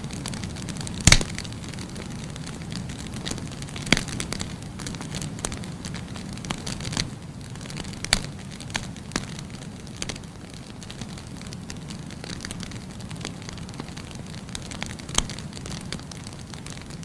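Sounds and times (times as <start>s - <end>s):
fire rushing in fireplace: 0.0s - 17.0s
firewood crackling and popping: 0.0s - 17.0s.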